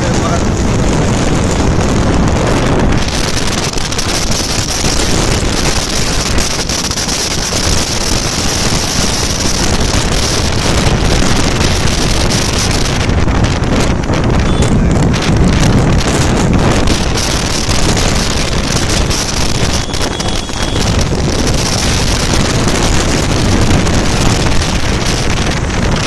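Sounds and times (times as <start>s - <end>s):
motorcycle engine: 0.0s - 26.0s
road noise: 0.0s - 26.0s
wind rush on microphone: 0.0s - 26.0s.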